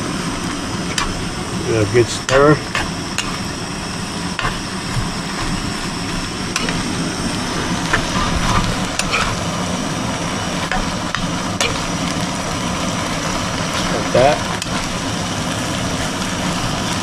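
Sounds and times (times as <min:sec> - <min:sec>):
steady low hum: 0:00.0 - 0:17.0
stir fry sizzling in a pan: 0:00.0 - 0:17.0.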